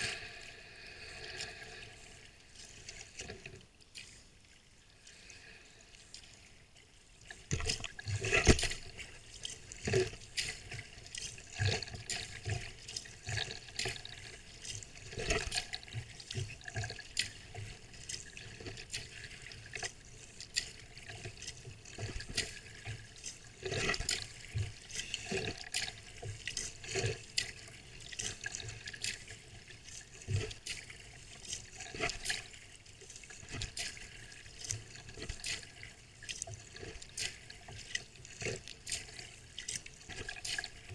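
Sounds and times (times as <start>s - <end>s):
paddle strokes splashing: 0.0s - 40.9s
water lapping against hull: 0.0s - 40.9s.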